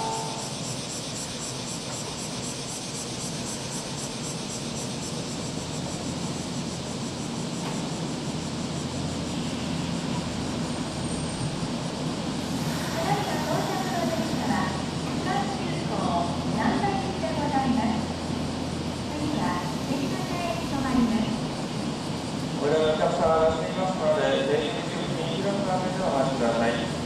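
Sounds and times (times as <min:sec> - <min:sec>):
electric train pulling in: 0:00.0 - 0:27.0.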